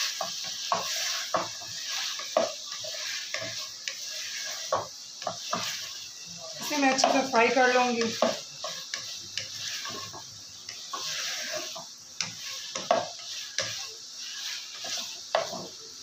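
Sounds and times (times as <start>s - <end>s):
hot oil sizzling: 0.0s - 16.0s
wooden spatula scraping metal wok: 0.0s - 16.0s.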